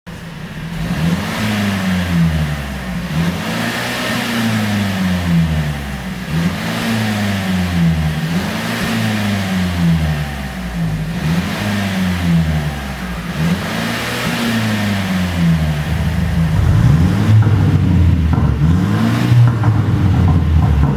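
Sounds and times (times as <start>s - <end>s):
car engine revving with exhaust pops: 0.1s - 20.9s.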